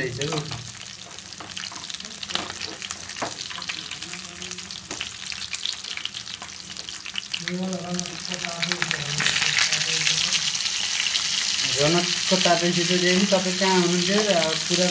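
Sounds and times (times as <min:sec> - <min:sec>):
fish frying in hot oil: 0:00.0 - 0:14.9.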